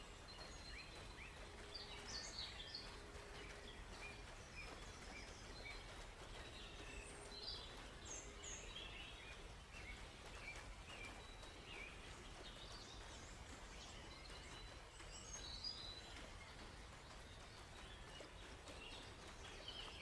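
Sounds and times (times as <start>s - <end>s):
birds chirping: 0.2s - 20.0s.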